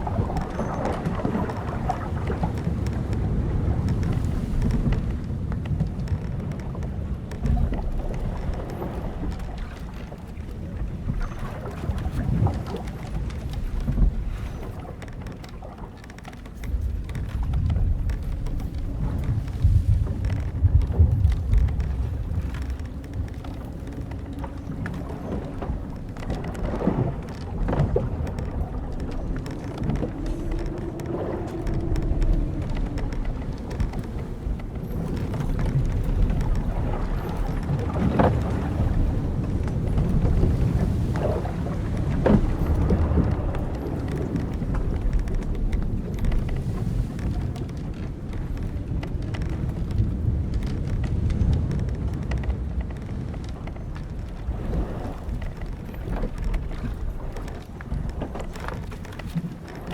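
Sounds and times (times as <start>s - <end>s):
timbers and rigging creaking: 0.0s - 59.9s
wind and water rushing: 0.0s - 59.9s.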